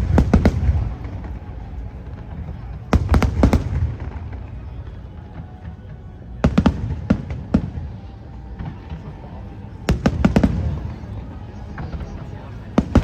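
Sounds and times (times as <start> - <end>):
continuous low rumble: 0.0 - 13.0
fireworks bursting with sharp bangs: 0.0 - 13.0.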